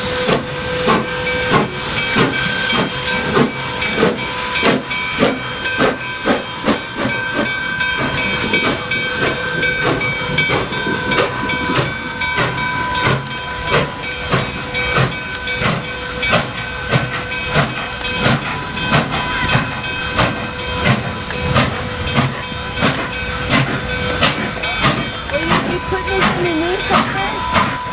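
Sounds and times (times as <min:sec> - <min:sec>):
steam hissing: 0:00.0 - 0:27.9
steam locomotive exhaust beats: 0:00.0 - 0:27.9.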